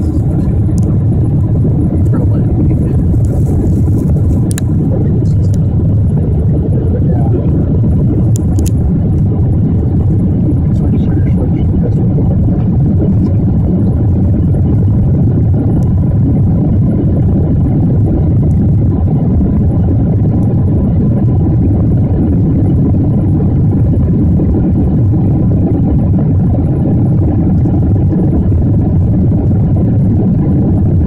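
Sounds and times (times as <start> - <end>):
airplane cabin roar: 0.0 - 31.0.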